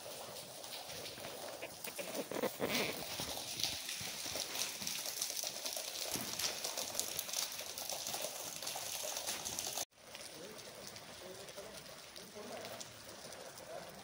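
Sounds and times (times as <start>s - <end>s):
rain on stone paving: 0.0s - 14.0s
raindrops ticking and splashing: 0.0s - 14.0s.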